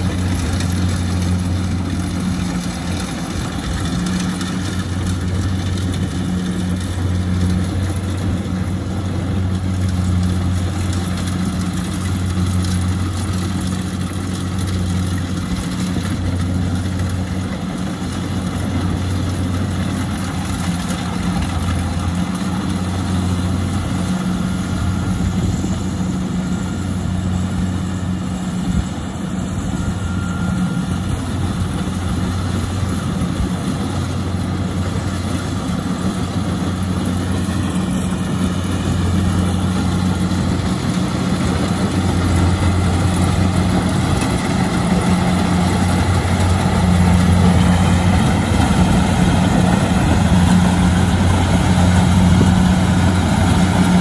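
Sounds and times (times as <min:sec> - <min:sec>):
harvester engine droning: 0:00.0 - 0:54.0.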